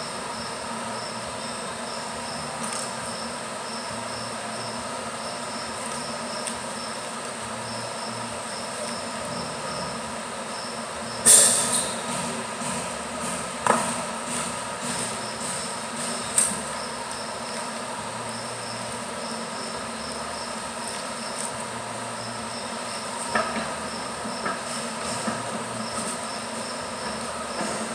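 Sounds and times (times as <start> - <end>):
faint pulsing high whine: 0.0 - 12.4, 15.0 - 27.9
machine hum: 0.0 - 27.9.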